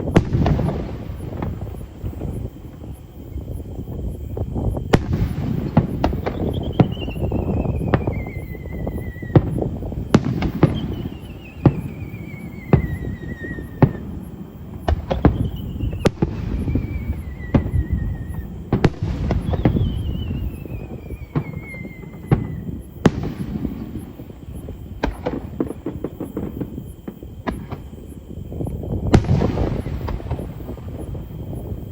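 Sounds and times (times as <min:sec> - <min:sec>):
falling firework whistle: 0:00.0 - 0:31.9
fireworks bangs: 0:00.0 - 0:31.9.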